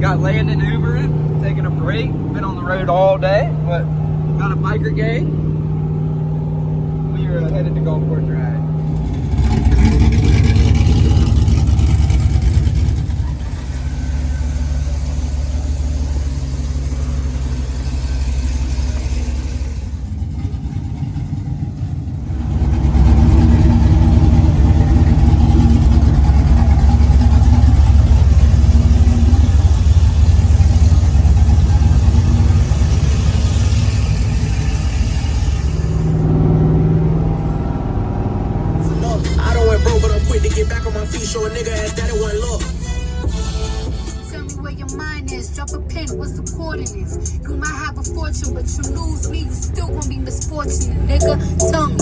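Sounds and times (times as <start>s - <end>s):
truck engine under load: 0.0s - 52.0s.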